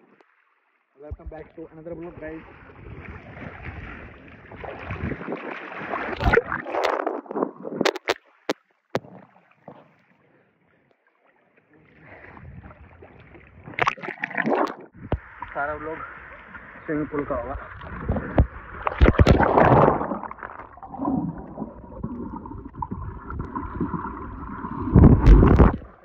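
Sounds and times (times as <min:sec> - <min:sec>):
pool water splashing: 0:01.5 - 0:09.7, 0:12.8 - 0:26.0.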